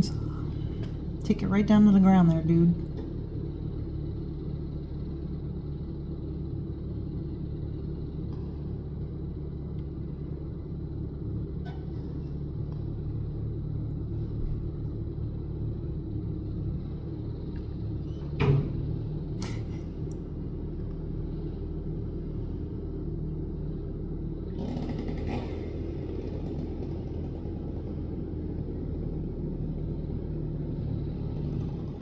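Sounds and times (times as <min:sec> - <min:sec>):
engine rumbling: 0:00.0 - 0:32.0.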